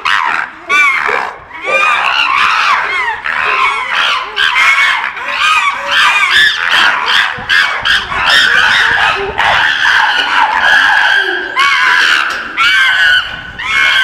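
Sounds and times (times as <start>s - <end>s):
chimpanzees screaming: 0.0s - 14.0s.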